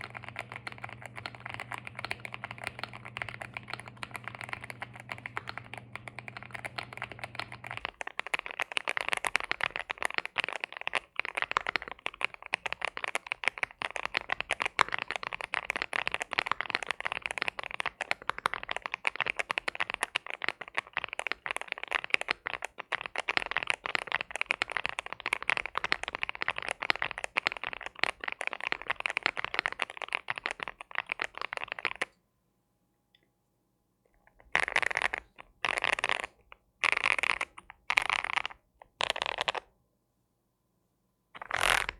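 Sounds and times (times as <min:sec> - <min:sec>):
fast mechanical keyboard typing: 0:00.0 - 0:32.2, 0:34.4 - 0:39.7, 0:41.4 - 0:41.9.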